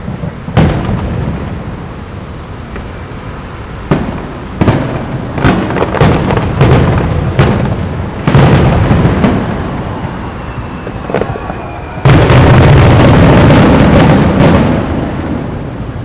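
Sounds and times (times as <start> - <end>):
fireworks booming with echo: 0.0 - 16.0
firework whistle: 2.7 - 16.0.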